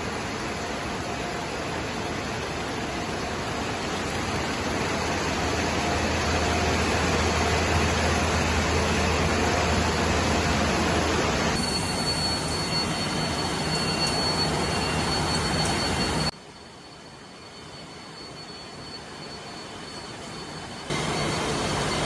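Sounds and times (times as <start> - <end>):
canning line machinery running: 0.0 - 16.3, 18.0 - 22.0
high steady whine: 0.0 - 22.0.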